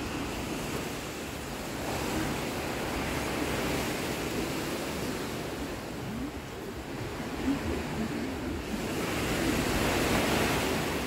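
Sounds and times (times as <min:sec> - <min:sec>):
sea waves rushing: 0:00.0 - 0:11.0
wind on microphone: 0:00.0 - 0:11.0.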